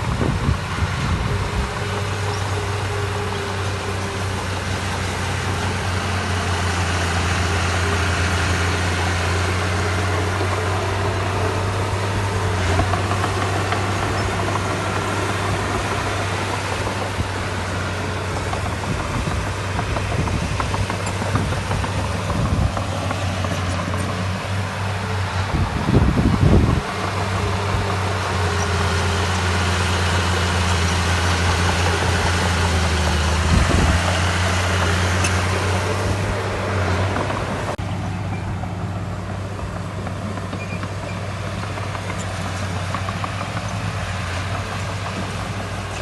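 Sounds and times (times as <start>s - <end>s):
diesel engine humming: 0.0s - 46.0s.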